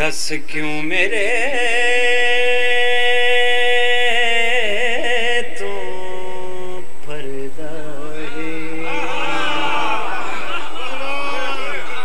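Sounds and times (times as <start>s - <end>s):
man singing melismatic chant: 0.0s - 12.0s.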